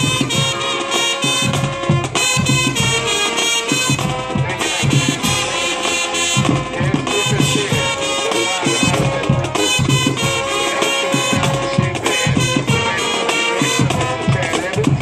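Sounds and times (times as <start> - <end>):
brass chords: 0.0 - 15.0
driving drum beat: 0.0 - 15.0.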